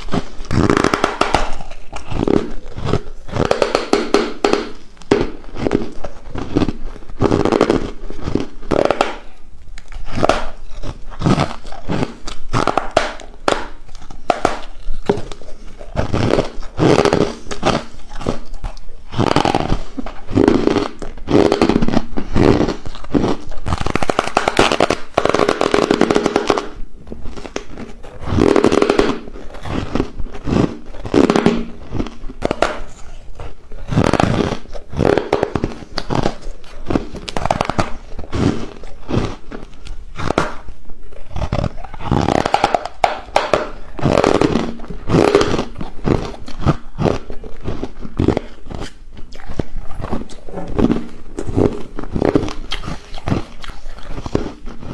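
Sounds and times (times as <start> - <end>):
chewing and crunching ice: 0.0 - 54.9.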